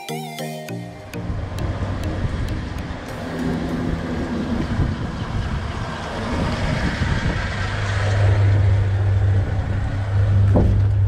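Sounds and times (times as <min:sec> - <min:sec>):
low exhaust drone: 0:00.7 - 0:11.0.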